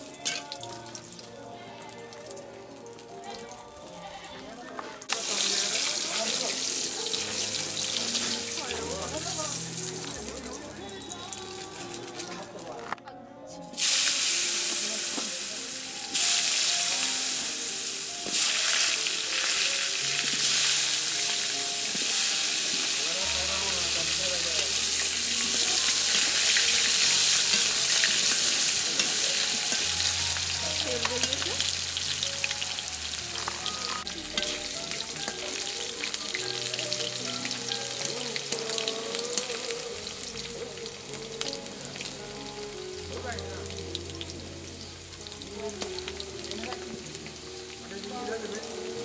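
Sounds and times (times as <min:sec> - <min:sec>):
potatoes sizzling in hot oil: 0:00.0 - 0:04.2, 0:05.0 - 0:12.4, 0:13.8 - 0:49.0.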